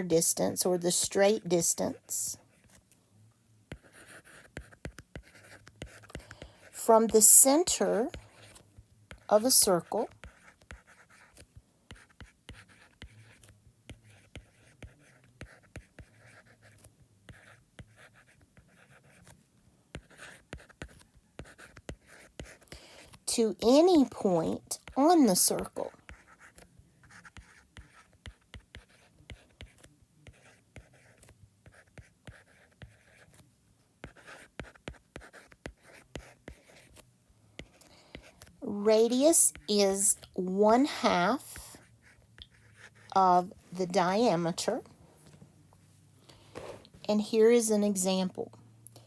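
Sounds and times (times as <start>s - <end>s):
pen scratching on paper: 3.7s - 37.0s, 37.6s - 44.8s.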